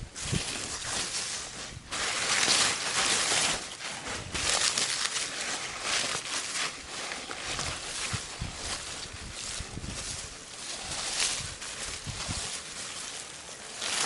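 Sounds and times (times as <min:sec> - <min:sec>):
lettuce leaves rustling: 0:00.0 - 0:14.0.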